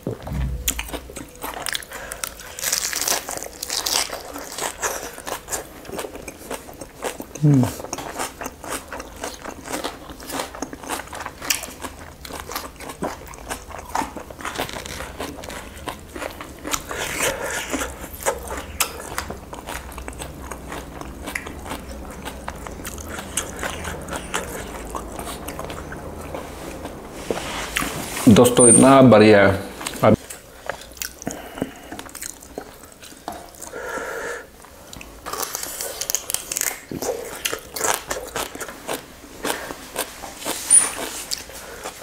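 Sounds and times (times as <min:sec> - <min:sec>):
person chewing food: 0:00.0 - 0:28.2, 0:29.8 - 0:42.0.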